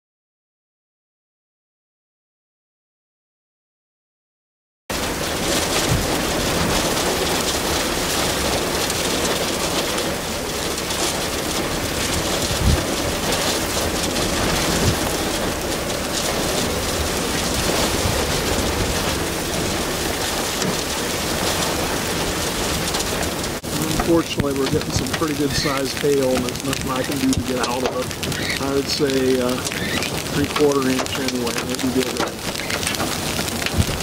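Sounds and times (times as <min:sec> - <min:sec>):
gusting wind: 0:04.9 - 0:34.0
rain and hail pelting vehicle: 0:04.9 - 0:34.0.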